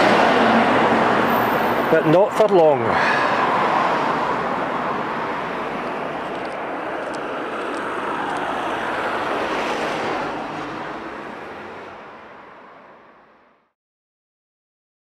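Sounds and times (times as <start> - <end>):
rushing vehicle noise: 0.0 - 13.7.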